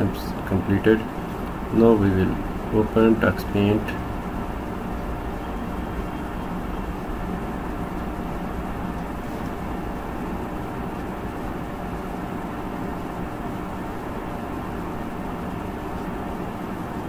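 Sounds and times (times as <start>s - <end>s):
faint hum tones: 0.0s - 17.0s
low rumbling background noise: 0.0s - 17.0s.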